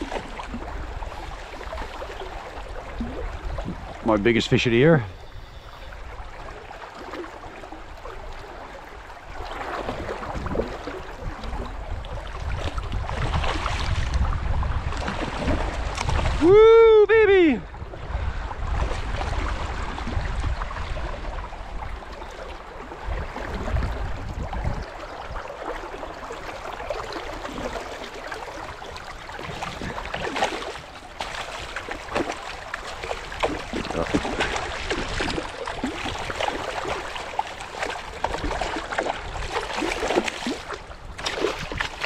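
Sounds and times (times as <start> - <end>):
flowing river water: 0.0 - 42.0.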